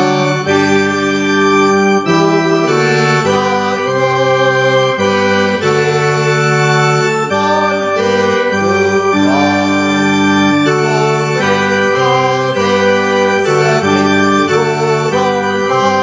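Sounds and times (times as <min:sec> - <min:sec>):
organ playing a hymn: 0:00.0 - 0:16.0.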